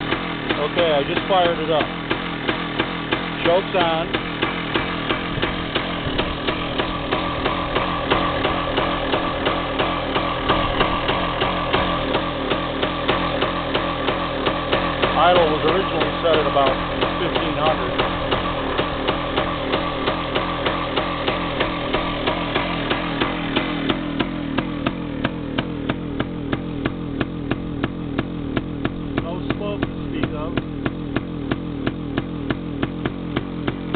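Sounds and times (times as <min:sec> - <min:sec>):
engine idling roughly: 0:00.0 - 0:33.9
sharp engine knock: 0:00.0 - 0:33.9.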